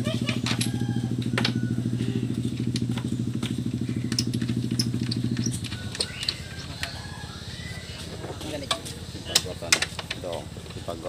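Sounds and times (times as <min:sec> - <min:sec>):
small boat engine running: 0:00.0 - 0:09.3.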